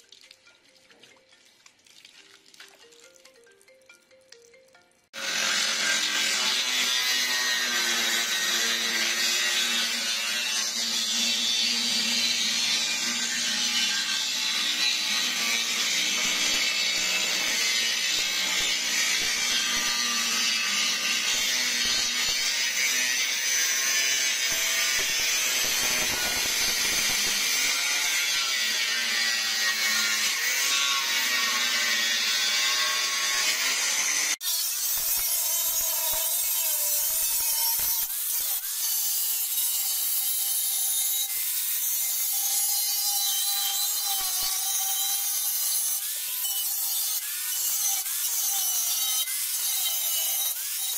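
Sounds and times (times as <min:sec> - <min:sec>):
angle grinder cutting steel: 0:05.1 - 0:50.9.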